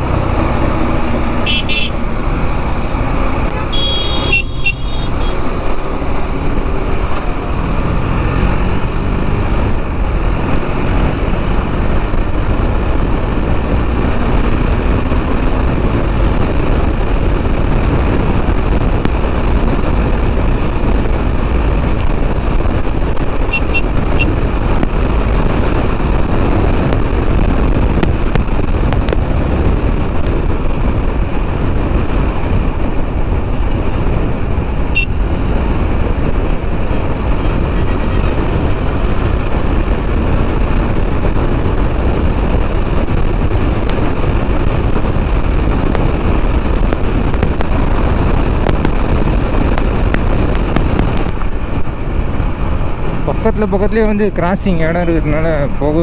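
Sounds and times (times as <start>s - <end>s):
motorcycle engine running: 0.0s - 54.4s
wind rushing over microphone: 0.0s - 56.0s.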